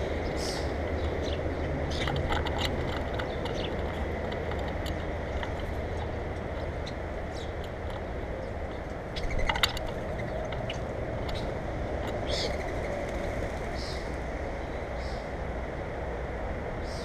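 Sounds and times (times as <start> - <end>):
beaks pecking on seed and wire: 0.0 - 14.3
steady low rumble: 0.0 - 17.0.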